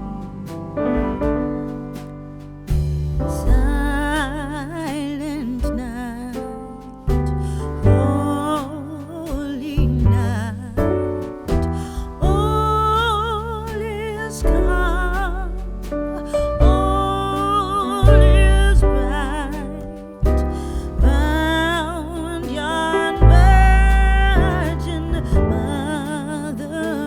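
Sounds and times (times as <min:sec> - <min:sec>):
deep sustained bass: 0:00.0 - 0:06.4, 0:07.1 - 0:27.0.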